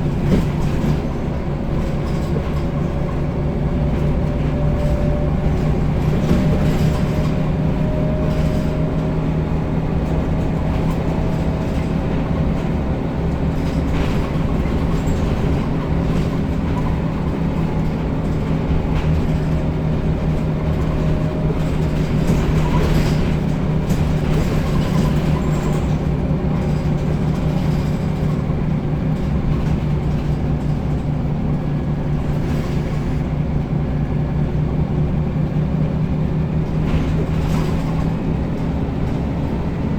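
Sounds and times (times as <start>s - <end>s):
bus engine hum: 0.0s - 39.9s.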